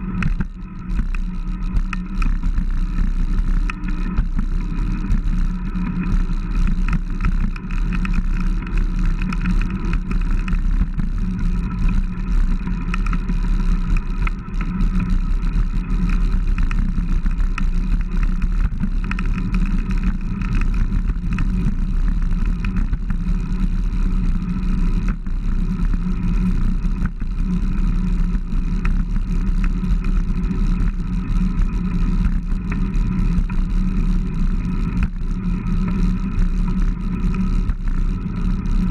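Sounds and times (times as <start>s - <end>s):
faint steady hum: 0.0s - 38.9s
wind and road noise: 0.0s - 38.9s.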